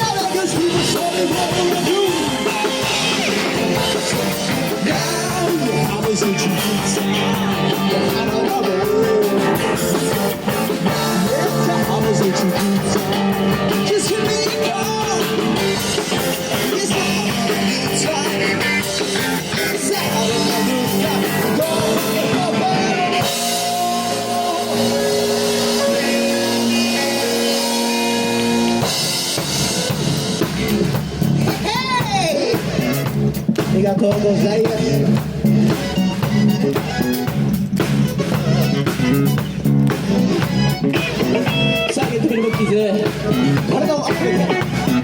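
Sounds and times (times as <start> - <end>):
drums: 0.0 - 45.0
electric guitar: 0.0 - 45.0
live rock band playing: 0.0 - 45.0.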